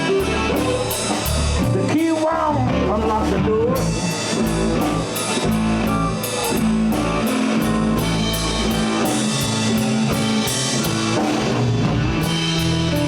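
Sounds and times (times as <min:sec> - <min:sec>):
live blues band playing: 0:00.0 - 0:13.0.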